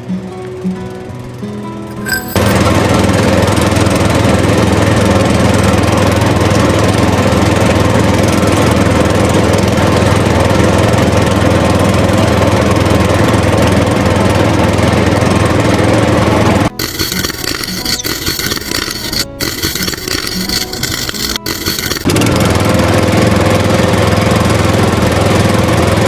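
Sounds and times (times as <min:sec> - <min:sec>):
small motor running: 0:01.9 - 0:26.0.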